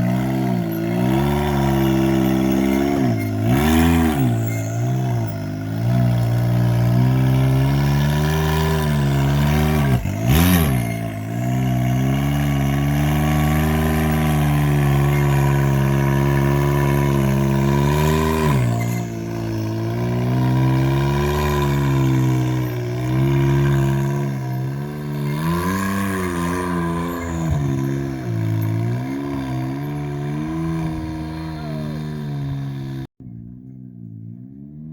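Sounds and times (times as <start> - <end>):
off-road vehicle engine pulling: 0.0 - 34.9.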